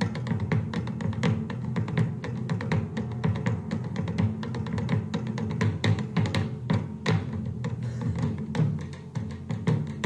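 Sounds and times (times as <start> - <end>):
fast steady drum beat: 0.0 - 10.0.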